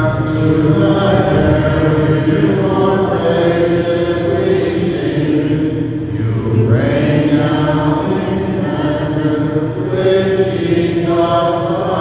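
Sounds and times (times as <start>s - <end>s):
voices chanting a hymn: 0.0s - 12.0s.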